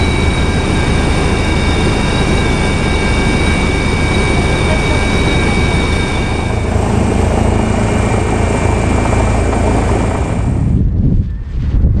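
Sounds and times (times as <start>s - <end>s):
helicopter rotor and engine noise: 0.0s - 11.9s
high turbine whine: 0.0s - 12.0s.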